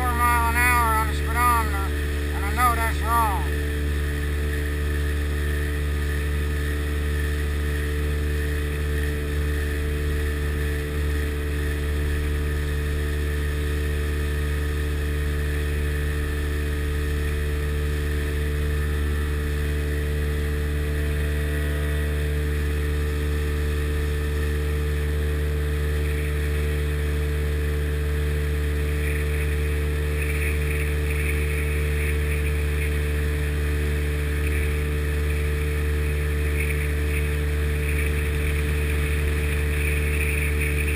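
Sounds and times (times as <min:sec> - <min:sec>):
boat engine droning: 0:00.0 - 0:40.9.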